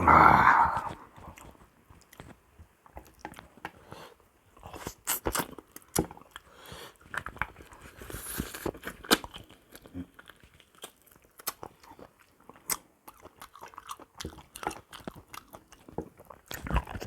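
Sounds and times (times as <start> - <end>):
person chewing and crunching food: 0.0 - 17.0.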